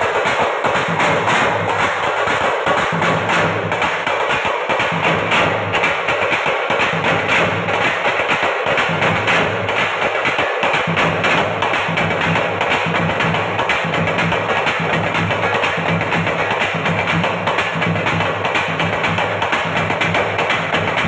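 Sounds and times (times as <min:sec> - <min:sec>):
frame drums beaten with sticks: 0:00.0 - 0:21.0.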